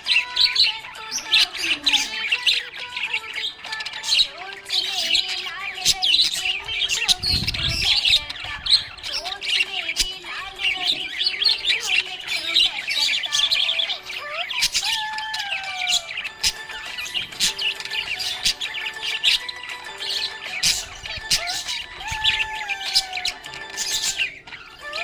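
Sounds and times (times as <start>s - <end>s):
budgerigars chirping and warbling: 0.0s - 25.0s.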